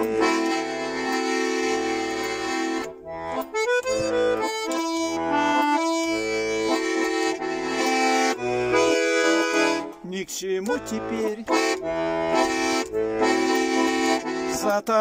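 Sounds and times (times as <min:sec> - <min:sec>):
button accordion playing: 0:00.0 - 0:15.0.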